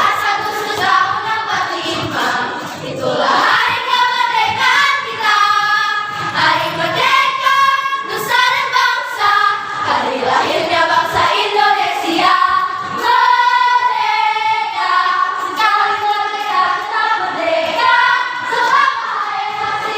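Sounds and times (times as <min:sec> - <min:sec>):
choir singing in high voices: 0:00.0 - 0:19.9.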